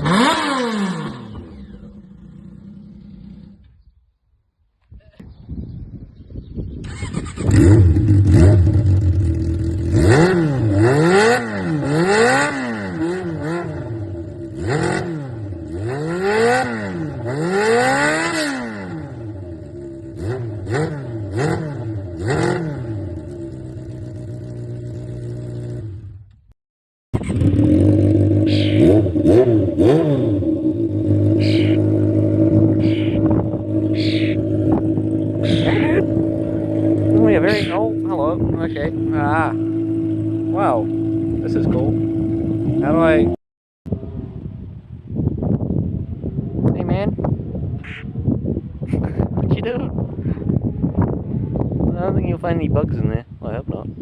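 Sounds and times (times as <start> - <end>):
motorcycle engine revving and idling: 0.0 - 4.0, 6.6 - 26.5, 27.2 - 54.0.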